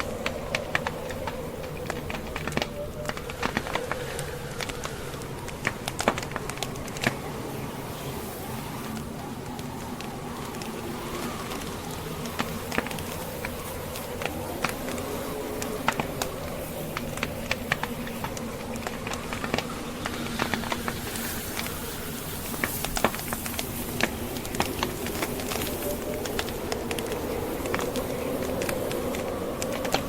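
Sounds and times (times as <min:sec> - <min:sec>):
blizzard wind: 0:00.0 - 0:30.0
fire crackling and popping: 0:00.0 - 0:30.0.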